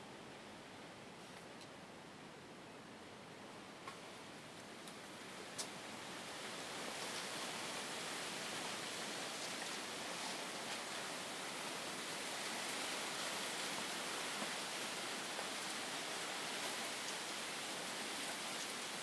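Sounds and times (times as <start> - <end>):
forest ambience hiss: 0.0 - 19.0.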